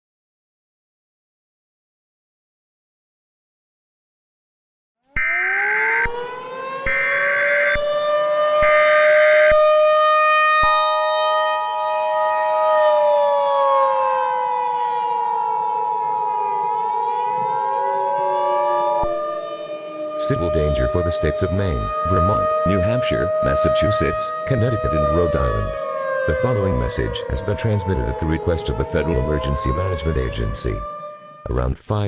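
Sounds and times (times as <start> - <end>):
warning siren: 5.0 - 31.7.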